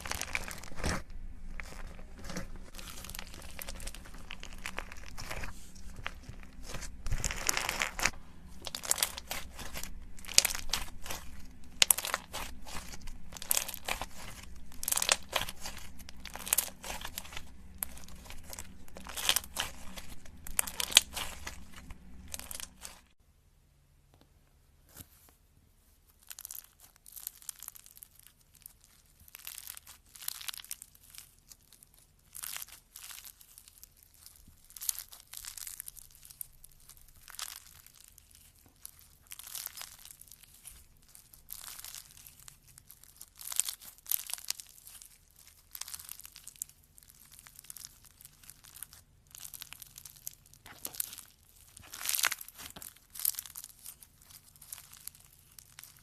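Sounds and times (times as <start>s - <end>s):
crunchy slime crackling: 0.0s - 23.2s, 26.0s - 56.0s.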